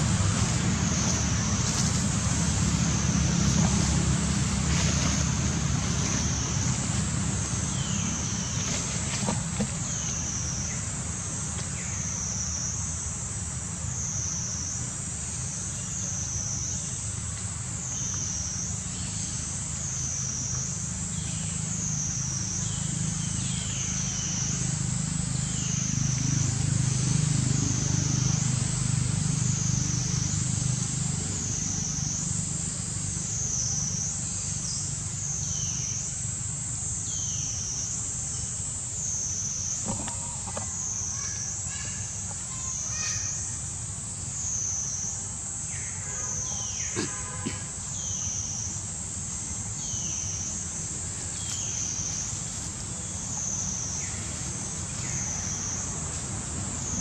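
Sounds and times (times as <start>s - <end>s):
cicada chorus: 0.0s - 57.0s.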